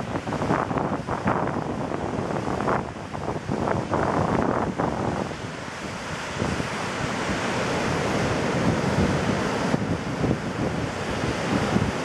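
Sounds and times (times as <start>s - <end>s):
ocean waves breaking on beach: 0.0s - 12.0s
wind buffeting microphone: 0.0s - 12.0s.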